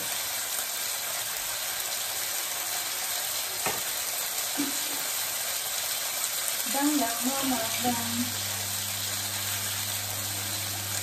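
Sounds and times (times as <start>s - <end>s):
chicken sizzling in grill pan: 0.0s - 11.0s.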